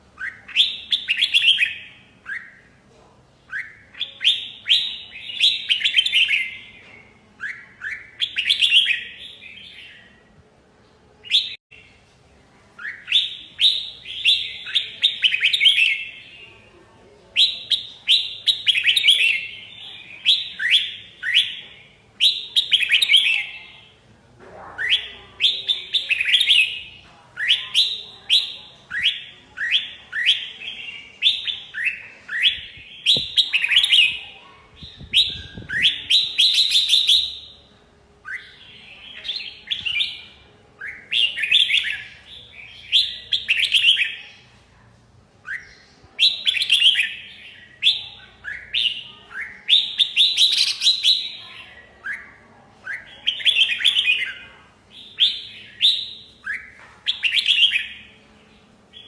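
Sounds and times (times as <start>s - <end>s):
bulbuls singing: 0.0s - 12.0s, 12.7s - 59.0s.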